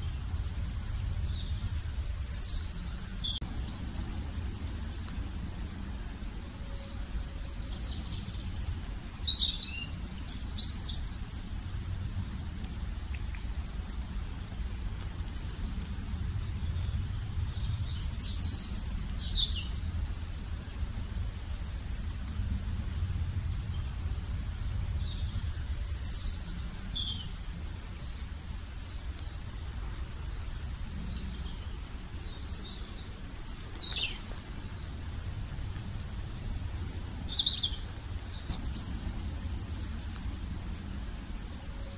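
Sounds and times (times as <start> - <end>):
low steady rumble: 0.0 - 41.9
songbirds chirping and singing: 0.0 - 41.9.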